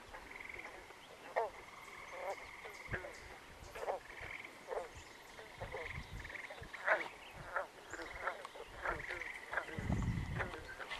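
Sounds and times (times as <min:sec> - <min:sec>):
bullfrogs croaking: 0:00.0 - 0:10.9.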